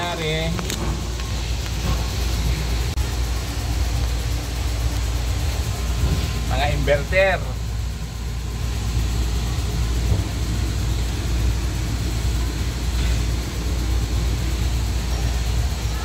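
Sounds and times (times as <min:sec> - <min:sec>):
faint hum tone: 0:00.0 - 0:16.0
machinery rumbling drone: 0:00.0 - 0:16.0.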